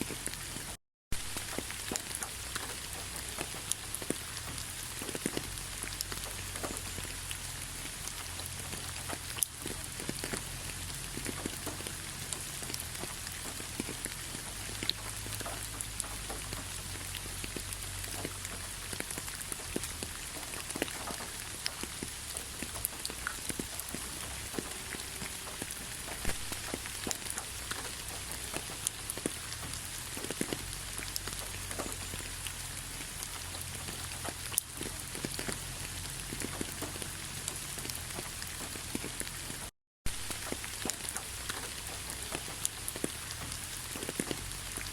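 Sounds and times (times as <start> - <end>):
light rain pattering: 0.0 - 44.9.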